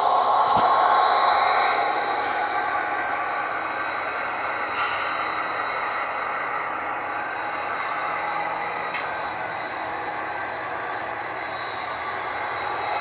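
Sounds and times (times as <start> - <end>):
high whine: 0.0 - 13.0
model trains rumbling: 0.0 - 13.0.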